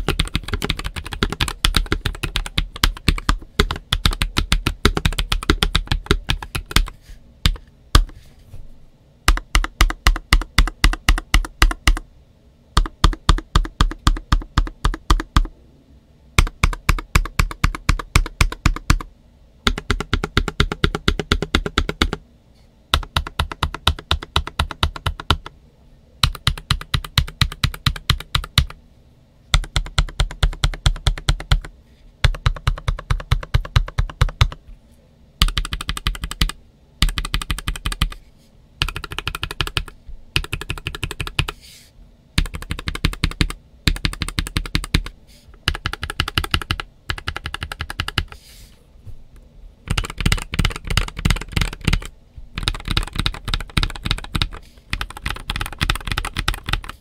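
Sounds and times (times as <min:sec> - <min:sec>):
fast keyboard typing: 0:00.0 - 0:08.2, 0:09.3 - 0:12.0, 0:12.8 - 0:15.5, 0:16.4 - 0:22.2, 0:22.9 - 0:25.5, 0:26.2 - 0:28.8, 0:29.5 - 0:34.6, 0:35.4 - 0:38.2, 0:38.8 - 0:41.6, 0:42.4 - 0:48.4, 0:49.9 - 0:57.0.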